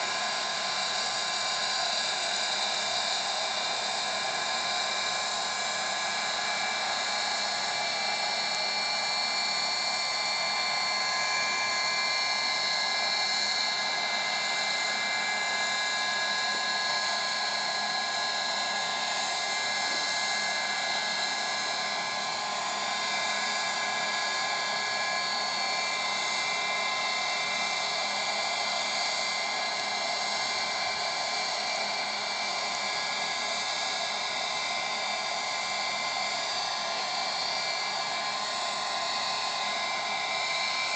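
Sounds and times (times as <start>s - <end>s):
model turbine engine whine: 0.0s - 40.9s.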